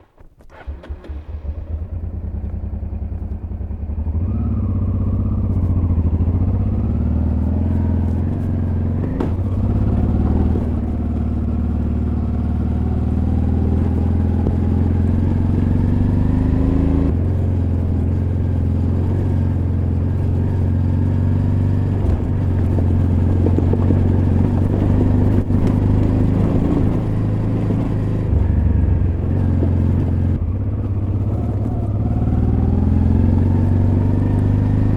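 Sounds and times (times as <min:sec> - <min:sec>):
motorcycle engine running: 0:00.5 - 0:34.9.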